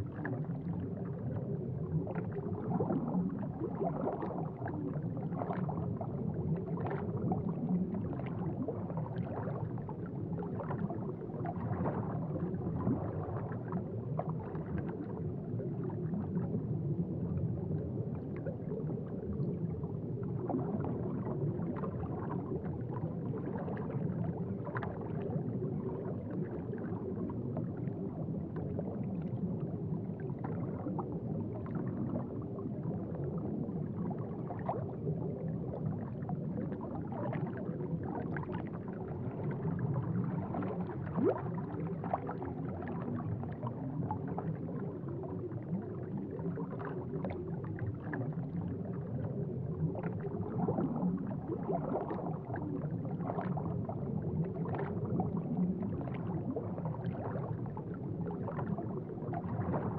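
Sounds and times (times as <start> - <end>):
aquarium water bubbling: 0.0 - 59.9.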